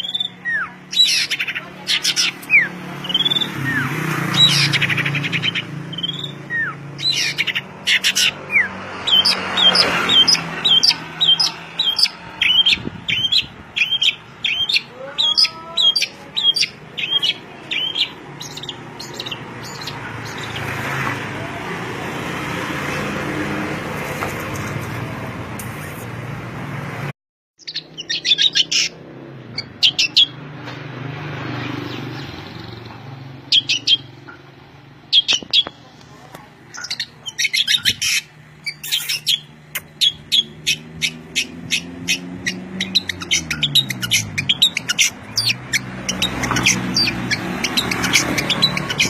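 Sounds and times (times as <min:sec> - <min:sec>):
songbird chirping: 0:00.0 - 0:21.2, 0:27.6 - 0:49.0.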